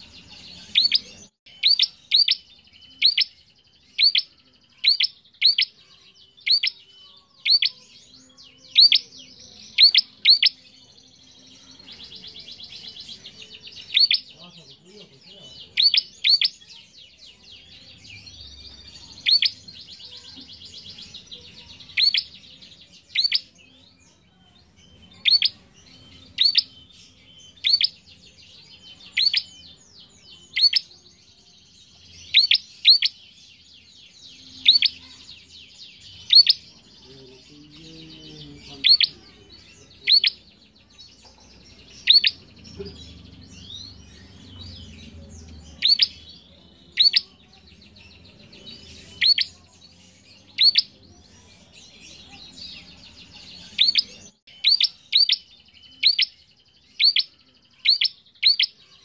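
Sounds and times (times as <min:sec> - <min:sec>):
soft bird twittering: 0:00.0 - 0:59.0.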